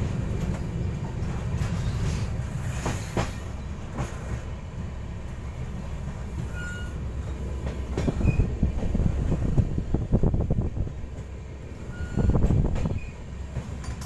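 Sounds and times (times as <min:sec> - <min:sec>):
train wheel clicks and rattles: 0:00.0 - 0:04.6, 0:05.2 - 0:14.0
train coach rumbling: 0:00.0 - 0:14.0.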